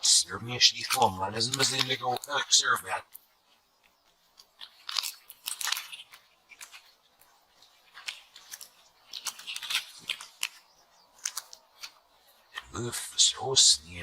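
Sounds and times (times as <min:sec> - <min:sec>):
crisp clicks and crunches: 0:00.0 - 0:14.0.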